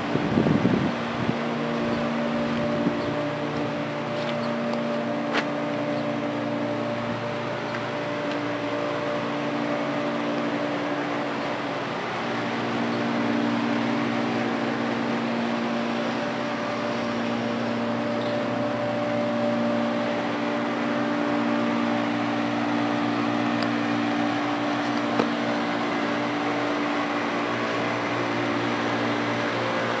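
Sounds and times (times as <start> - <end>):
mechanical hum with tones: 0.0 - 30.0.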